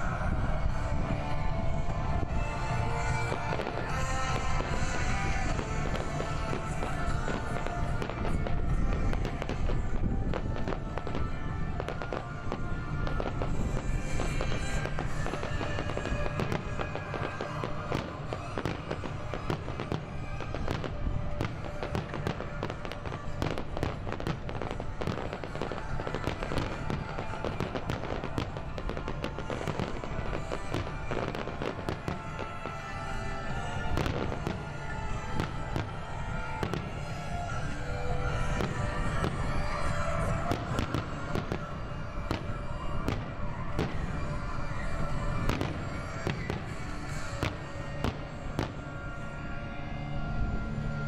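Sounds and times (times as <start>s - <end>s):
fireworks bursting and crackling: 0.0s - 51.0s
music playing: 0.0s - 51.0s.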